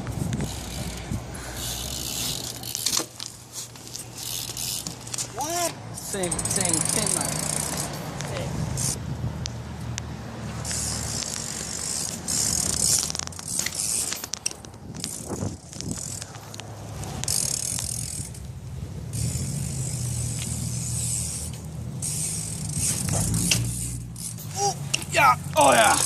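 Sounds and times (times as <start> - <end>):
bike hub ratchet clicking: 0.0 - 26.0
tyres rolling on pavement: 0.0 - 26.0.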